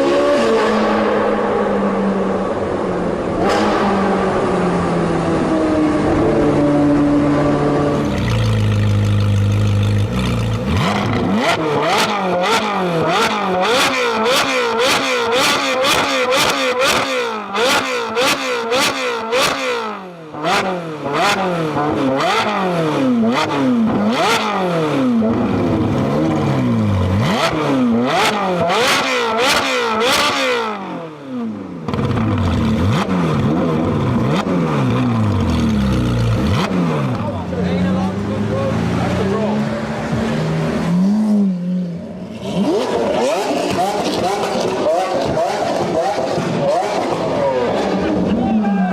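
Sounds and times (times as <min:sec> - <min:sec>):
sports car engine revving: 0:00.0 - 0:48.7.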